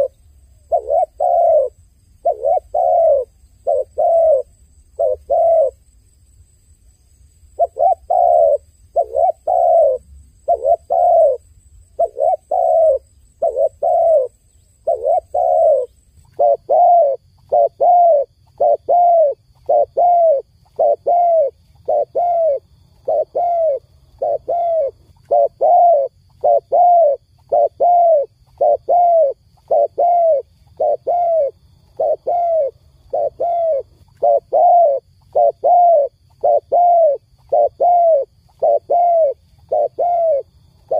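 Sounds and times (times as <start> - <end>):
dove cooing: 0.0 - 5.8, 7.6 - 40.9.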